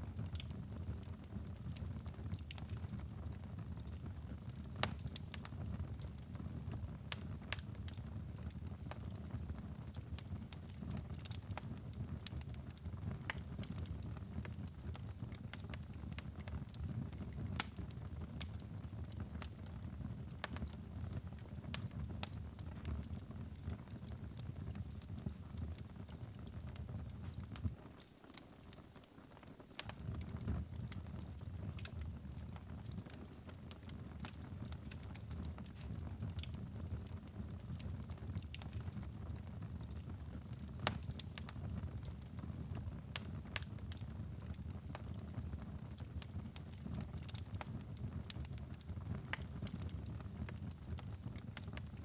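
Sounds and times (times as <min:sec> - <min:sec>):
low rumble of flames: 0:00.0 - 0:27.8, 0:29.7 - 0:52.0
fire crackles and pops: 0:00.0 - 0:52.0.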